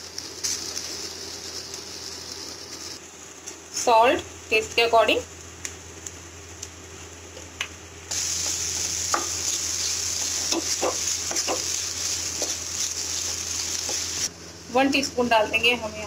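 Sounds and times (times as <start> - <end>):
food sizzling in oil: 0.0 - 15.9.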